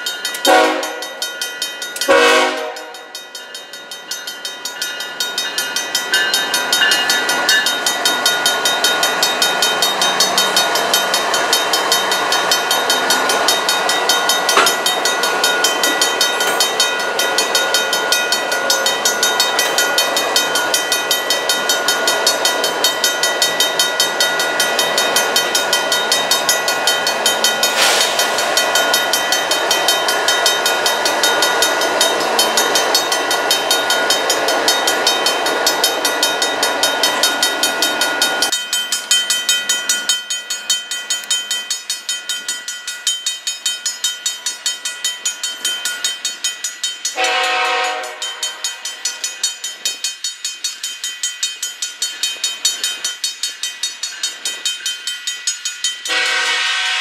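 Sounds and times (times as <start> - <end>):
crossing bell ringing: 0.0 - 57.0
freight train rolling past: 0.0 - 57.0.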